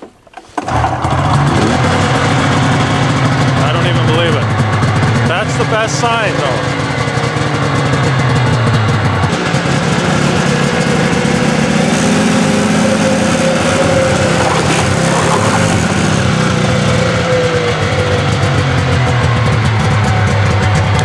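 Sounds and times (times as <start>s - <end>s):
snowmobile engine running: 0.6s - 21.0s.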